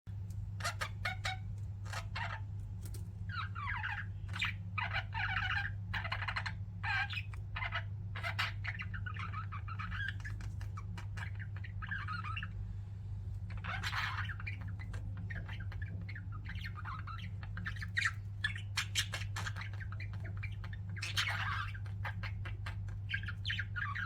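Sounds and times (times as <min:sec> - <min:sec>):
steady low hum: 0:00.1 - 0:24.0
budgerigars chirping and warbling: 0:00.5 - 0:02.5, 0:03.3 - 0:24.0.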